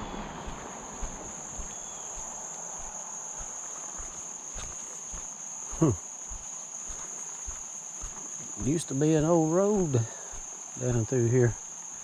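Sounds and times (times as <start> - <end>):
footsteps on dirt path: 0.0 - 12.0
high-pitched insect chorus: 0.0 - 12.0.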